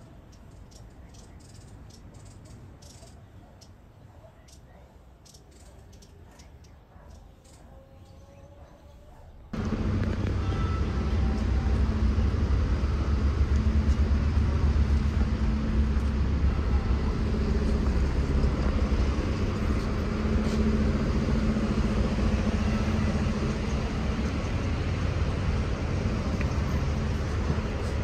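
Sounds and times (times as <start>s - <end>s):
street traffic hum: 0.0s - 28.0s.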